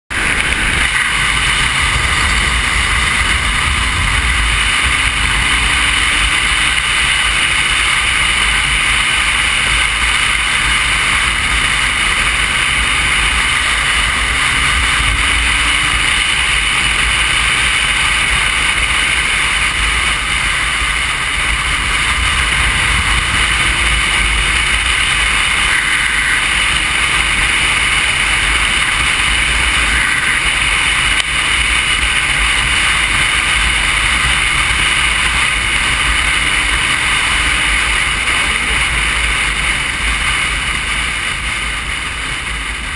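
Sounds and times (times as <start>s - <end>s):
motorcycle engine: 0.0s - 42.9s
wind rushing over microphone: 0.1s - 42.9s.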